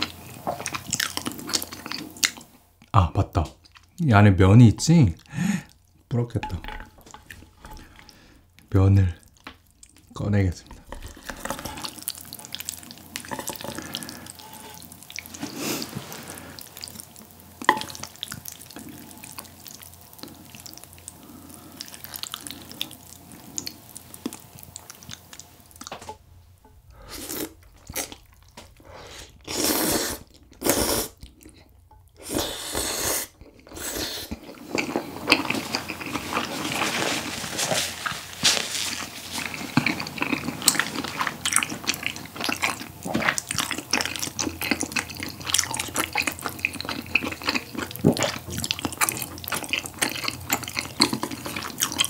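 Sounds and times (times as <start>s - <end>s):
chewing: 0.0s - 4.0s, 6.8s - 26.2s, 30.2s - 32.6s, 33.4s - 52.0s.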